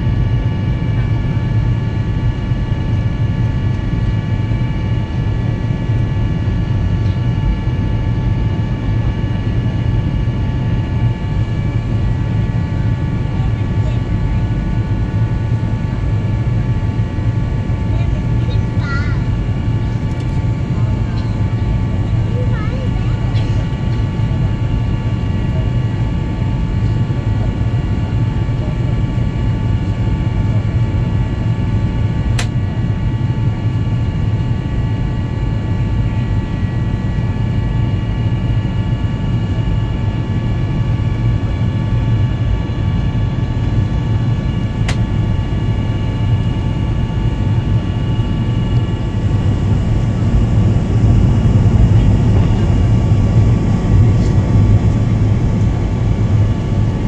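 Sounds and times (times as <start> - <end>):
jet engine and airflow roar: 0.0 - 57.0.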